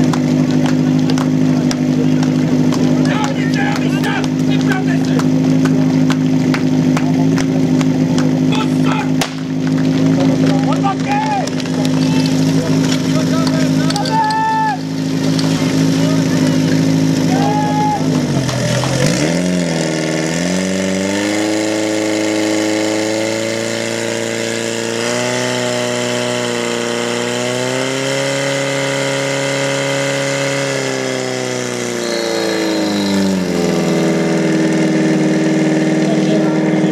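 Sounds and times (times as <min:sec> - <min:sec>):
fire pump engine running hard: 0:00.0 - 0:36.9.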